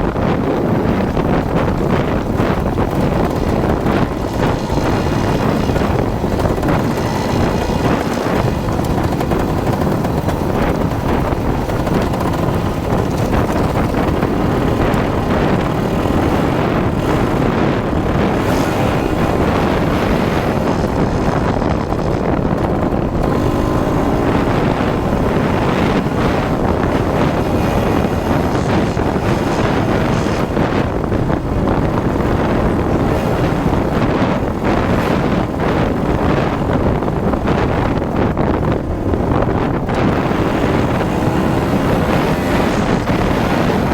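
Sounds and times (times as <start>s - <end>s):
dirt bike engine running: 0.0s - 43.9s
wind buffeting microphone: 0.0s - 43.9s.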